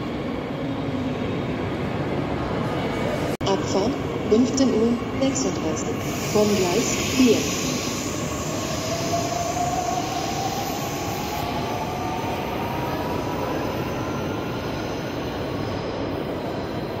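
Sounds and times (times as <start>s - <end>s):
station hall rumble: 0.0s - 17.0s.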